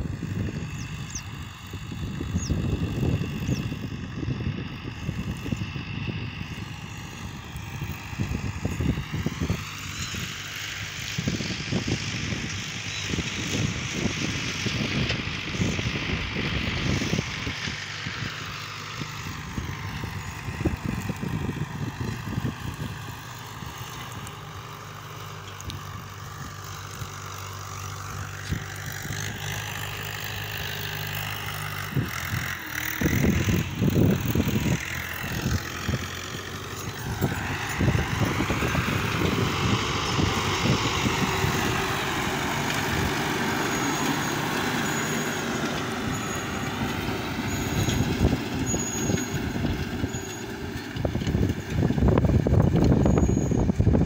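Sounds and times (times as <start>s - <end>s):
wind buffeting microphone: 0.0s - 24.8s, 25.7s - 54.0s
vehicle engine hum: 0.0s - 54.0s.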